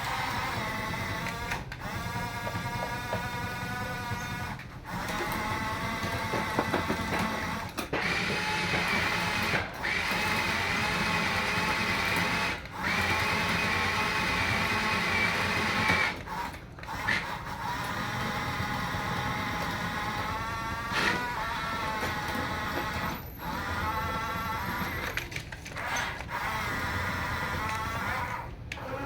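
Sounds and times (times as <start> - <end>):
small electric motors humming: 0.0 - 29.0.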